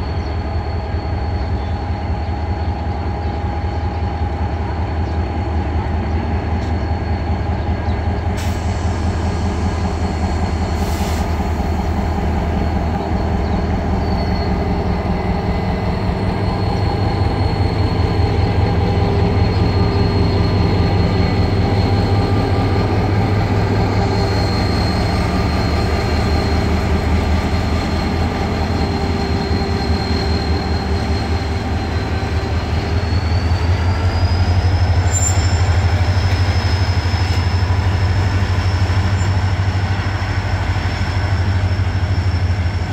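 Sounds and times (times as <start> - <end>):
diesel locomotive rumble: 0.0 - 42.9.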